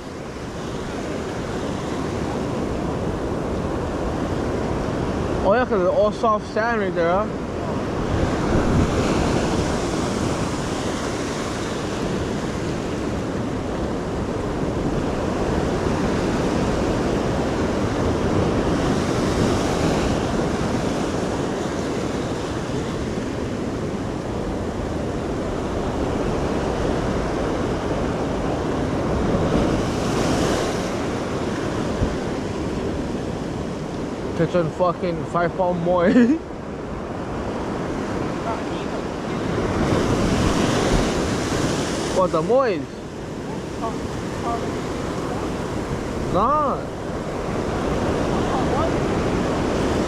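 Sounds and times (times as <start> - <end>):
wind buffeting microphone: 0.0 - 35.7, 36.4 - 50.0
ocean surf breaking: 0.0 - 50.0.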